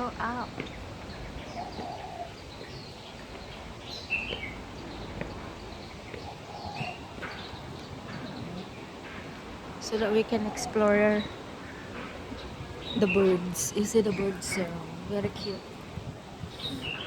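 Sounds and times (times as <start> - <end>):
background hiss: 0.0 - 17.0
birds chirping: 0.0 - 17.0.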